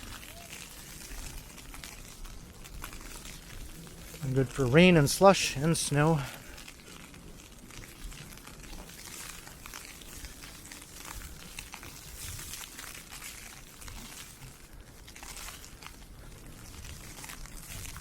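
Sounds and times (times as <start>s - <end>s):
ice pellets ticking on umbrella: 0.0s - 18.0s.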